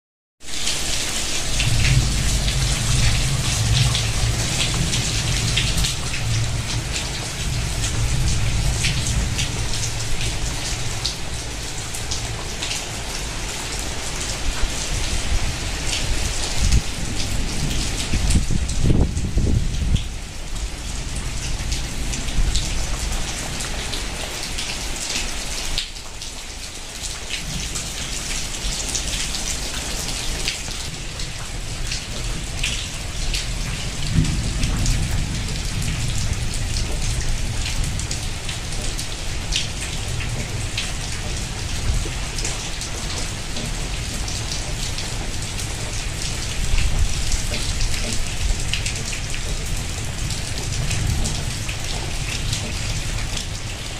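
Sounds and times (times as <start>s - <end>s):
heavy rain splashing into water: 0.4s - 53.9s.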